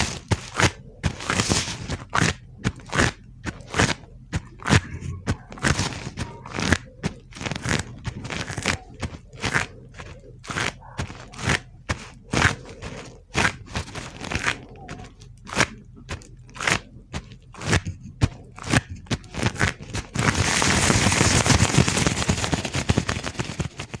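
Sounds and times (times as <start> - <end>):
gloved hands crinkling and rubbing: 0.0 - 24.0.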